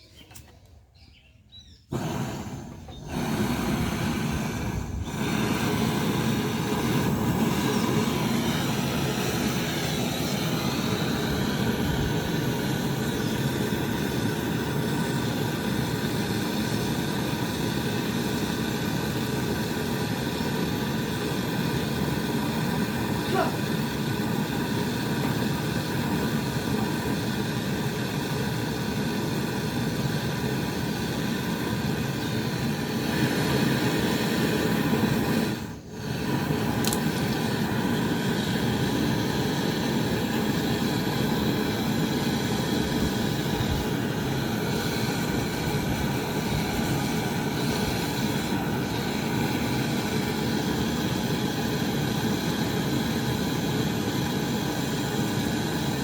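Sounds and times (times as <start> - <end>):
loud machine noise: 1.9 - 56.0.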